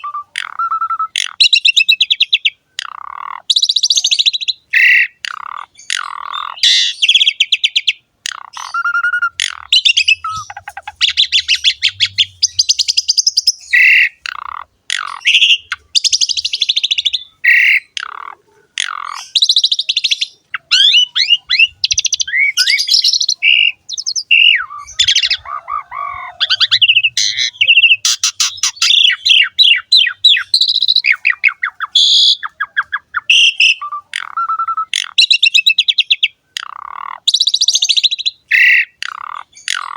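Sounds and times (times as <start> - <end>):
starling singing rattling trills: 0.0 - 39.9.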